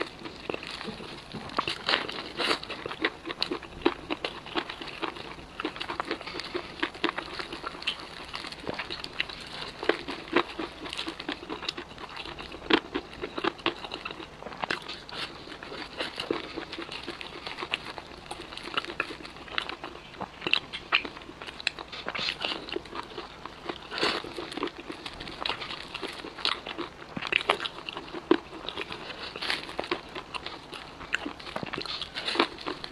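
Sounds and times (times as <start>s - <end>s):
crunching fried chicken: 0.0s - 32.9s.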